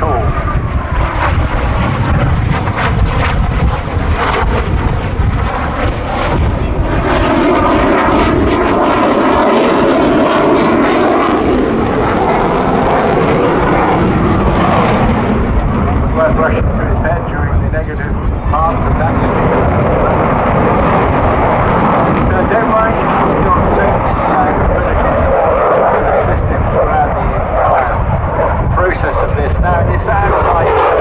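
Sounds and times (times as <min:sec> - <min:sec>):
loud crackling jet noise: 0:00.0 - 0:31.0.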